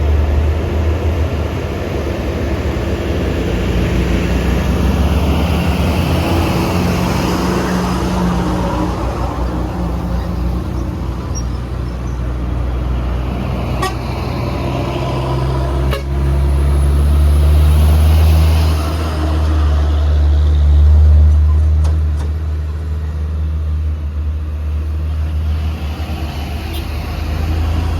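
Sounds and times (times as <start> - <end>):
truck diesel engine roaring: 0.0 - 27.9.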